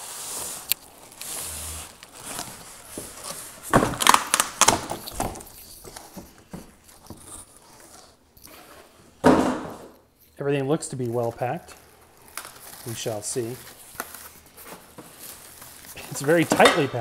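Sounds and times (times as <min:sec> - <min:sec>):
foam and cardboard scraping: 0:00.0 - 0:04.2, 0:04.9 - 0:09.1, 0:10.9 - 0:17.0
plastic film crinkling: 0:00.2 - 0:08.4, 0:10.2 - 0:17.0.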